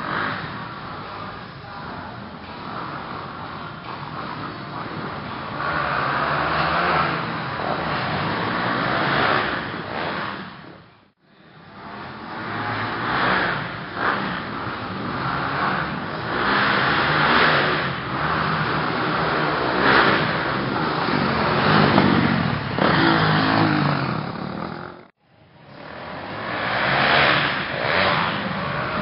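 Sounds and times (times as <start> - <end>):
dirt bike engine revving: 0.0 - 1.0, 4.0 - 10.7, 11.8 - 25.1, 25.7 - 29.0.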